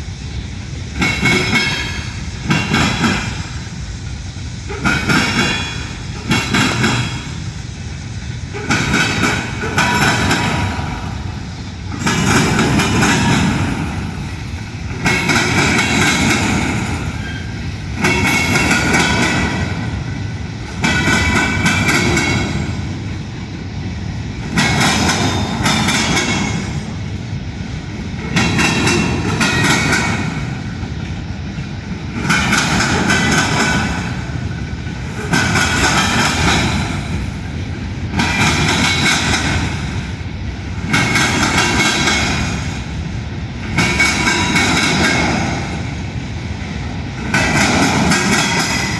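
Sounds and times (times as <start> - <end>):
train cars rumbling: 0.0 - 48.9
train wheels clacking over rail joints: 0.9 - 3.7, 4.6 - 7.5, 8.5 - 48.9.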